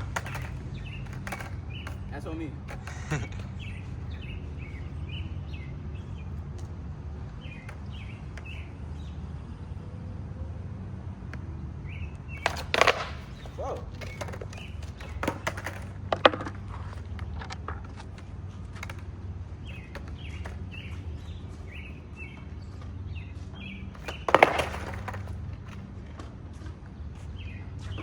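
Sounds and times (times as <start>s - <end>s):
skateboard clacking on pavement: 0.0s - 9.2s, 11.2s - 27.6s
birds chirping: 0.0s - 28.0s.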